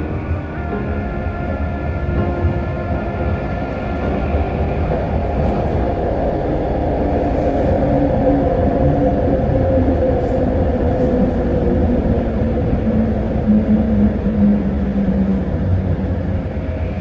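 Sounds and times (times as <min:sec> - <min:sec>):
train car rumbling on track: 0:00.0 - 0:17.0.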